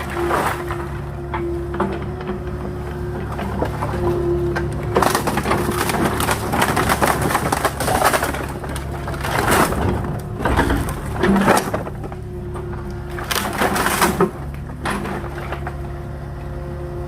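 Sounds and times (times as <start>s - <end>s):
wood crunching and cracking: 0.0s - 16.0s
diesel engine running: 0.0s - 17.0s.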